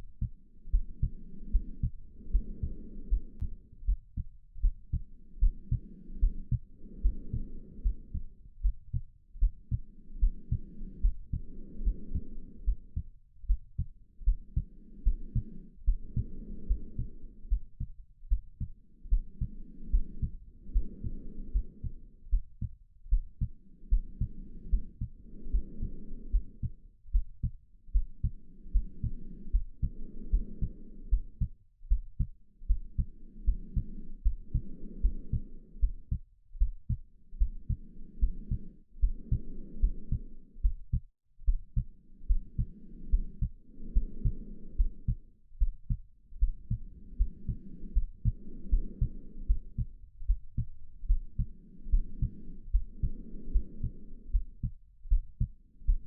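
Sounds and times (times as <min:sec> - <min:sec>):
heartbeat: 0:00.0 - 0:56.0
slow breathing: 0:00.1 - 0:56.0.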